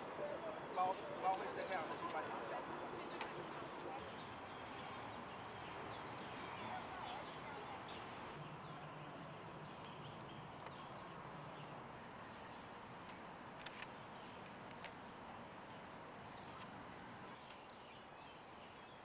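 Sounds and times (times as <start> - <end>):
faint outdoor background noise: 0.0 - 19.0
small birds chirping: 0.6 - 19.0.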